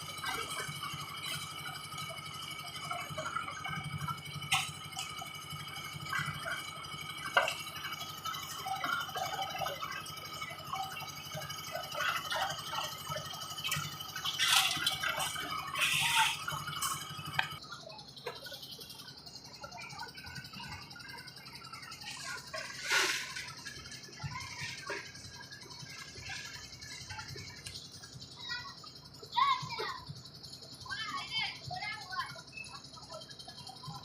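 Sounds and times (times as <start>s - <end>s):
machine hum and whine: 0.0s - 34.0s.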